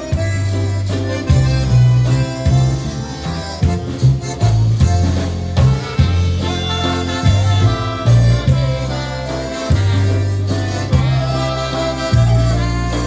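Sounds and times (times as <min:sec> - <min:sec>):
polka band playing a waltz: 0:00.0 - 0:13.0.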